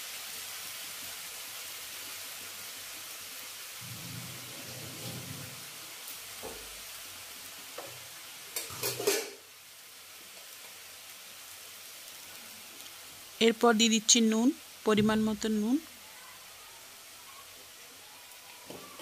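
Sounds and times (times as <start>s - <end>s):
spinach sizzling in a wok: 0.0s - 19.0s.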